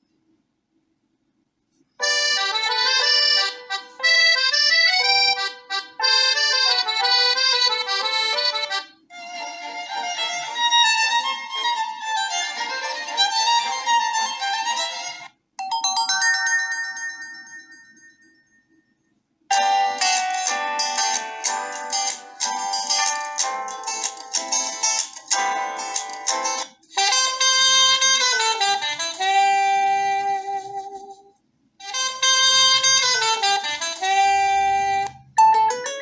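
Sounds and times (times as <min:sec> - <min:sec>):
ringtone melodies: 0:02.0 - 0:31.0, 0:31.8 - 0:36.0.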